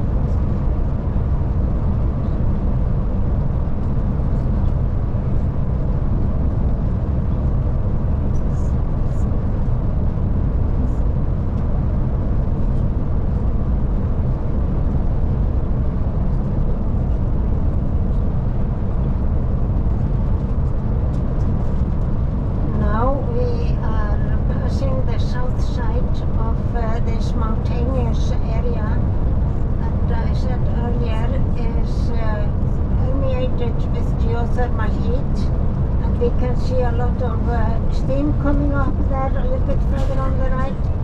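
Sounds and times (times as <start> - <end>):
coach engine and road rumble: 0.0 - 41.0.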